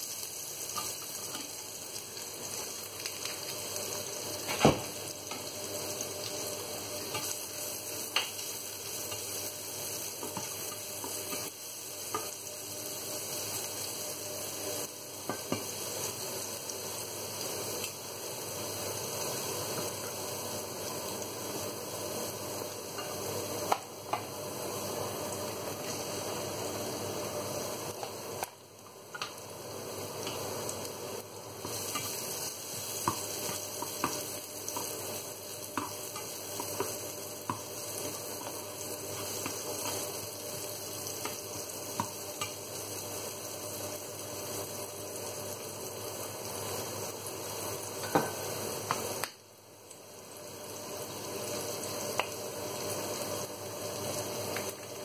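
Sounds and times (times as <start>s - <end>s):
vegetables sizzling in hot oil: 0.0s - 55.0s.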